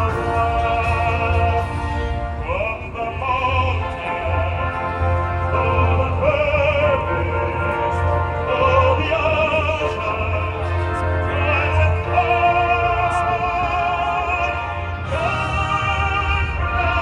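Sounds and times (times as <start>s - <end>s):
operatic singing with accompaniment: 0.0s - 17.0s.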